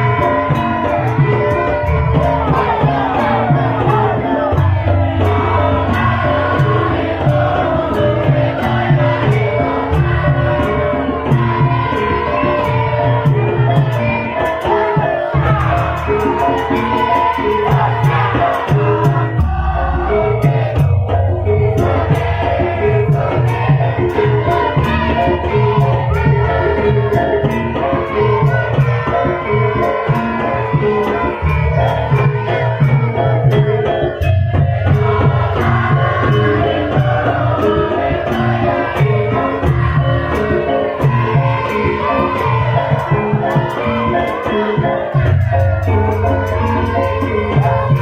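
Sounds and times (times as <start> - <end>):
gamelan music: 0.0 - 48.0
hand drum pattern: 0.0 - 48.0
ringing metallophone tones: 0.0 - 48.0.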